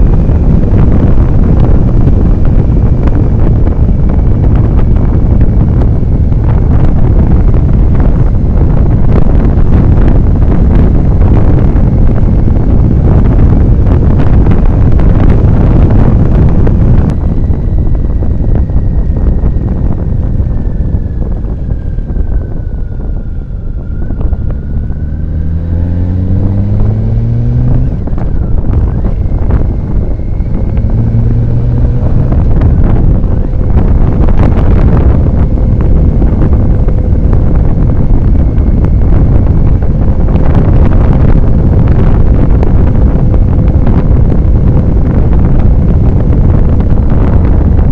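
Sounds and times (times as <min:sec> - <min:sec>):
motorcycle engine accelerating: 0:00.0 - 0:47.9
wind rushing over microphone: 0:00.0 - 0:47.9.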